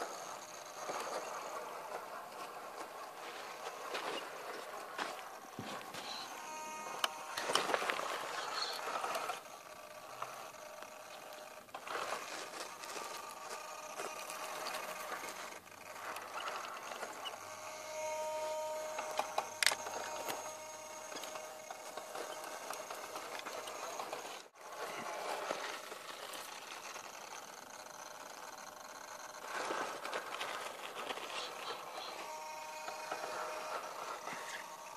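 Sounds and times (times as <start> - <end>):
tires grinding over dirt: 0.0 - 17.4, 21.0 - 34.9
electric motor whining: 0.0 - 34.9.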